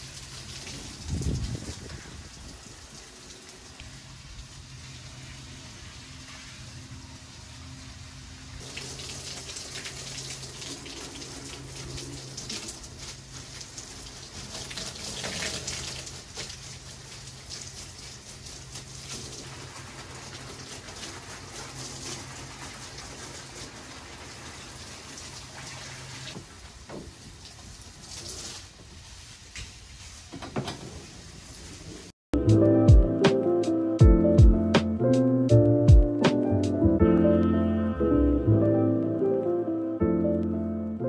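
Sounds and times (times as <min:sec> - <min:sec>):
garden hose spraying water: 0:00.0 - 0:33.5.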